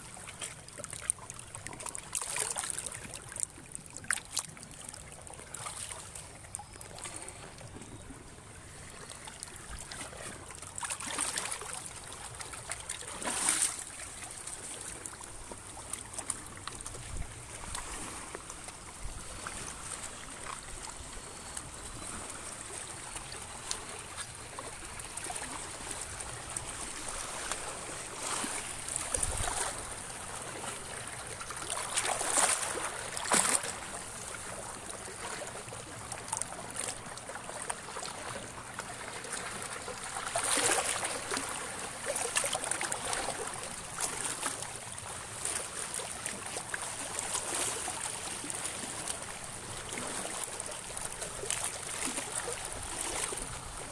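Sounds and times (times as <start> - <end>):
waves lapping against rocky shore: 0.0 - 53.9
waves splashing: 0.0 - 53.9.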